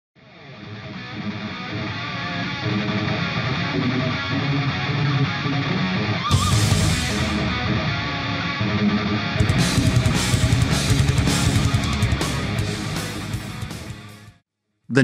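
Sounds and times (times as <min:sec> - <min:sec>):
guitar intro music: 0:00.2 - 0:14.4.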